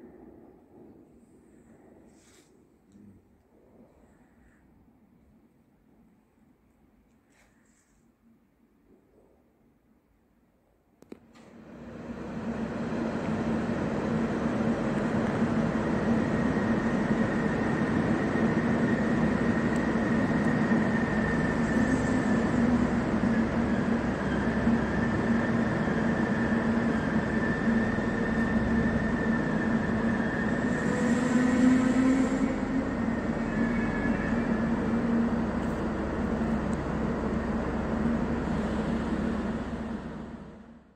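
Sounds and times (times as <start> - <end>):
train engine humming with whine: 0.0 - 40.9.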